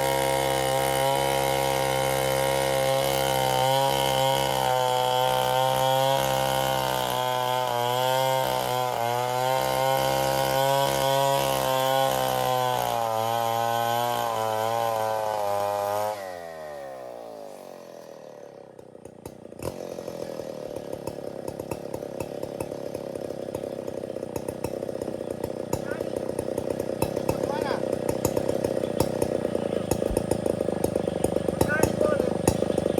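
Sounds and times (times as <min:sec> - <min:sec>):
chainsaw running then idling: 0:00.0 - 0:32.9.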